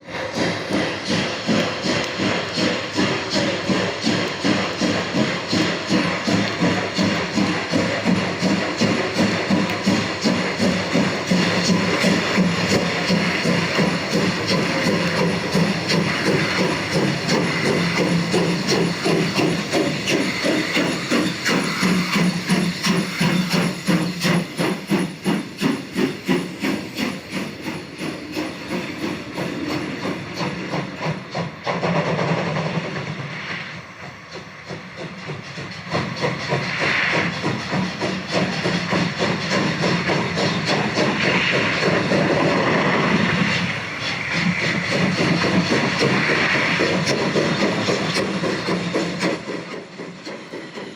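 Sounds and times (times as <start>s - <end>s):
steam hiss: 0.0s - 50.9s
steam locomotive chuffs: 0.0s - 50.9s.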